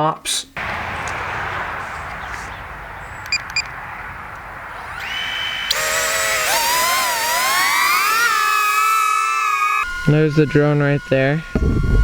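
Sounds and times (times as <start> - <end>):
drone propellers whining: 0.6 - 12.0.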